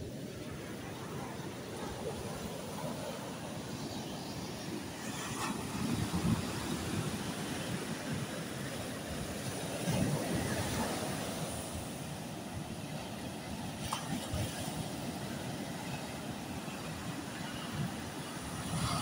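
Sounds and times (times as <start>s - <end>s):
sea waves breaking on beach: 0.0s - 19.0s.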